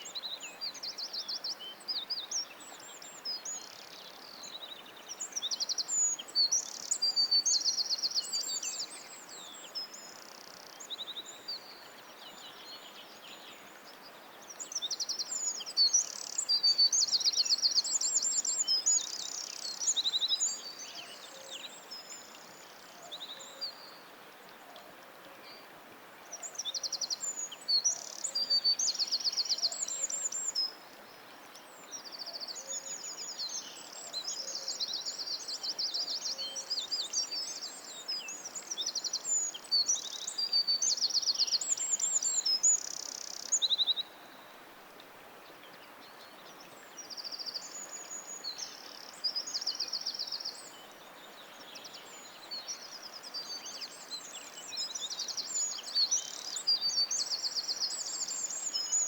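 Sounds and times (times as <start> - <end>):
faint steady hiss: 0.0 - 59.0
songbirds singing: 0.0 - 59.0.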